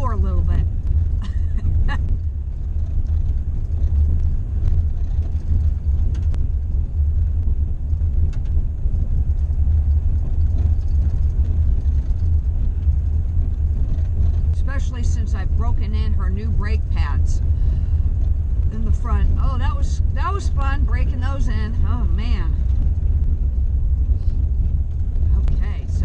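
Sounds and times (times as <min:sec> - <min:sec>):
tyres rolling on dirt: 0:00.0 - 0:26.0
van engine running: 0:00.0 - 0:26.0.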